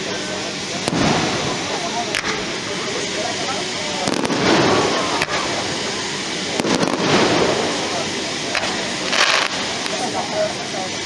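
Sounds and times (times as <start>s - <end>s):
fireworks bangs and cracks: 0.0s - 10.5s
continuous rumble: 0.0s - 11.0s.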